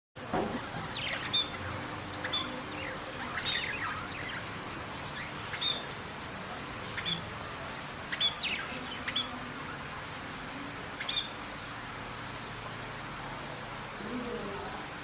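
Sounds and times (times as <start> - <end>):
background hiss: 0.2 - 15.0
bird chirping: 0.4 - 12.6.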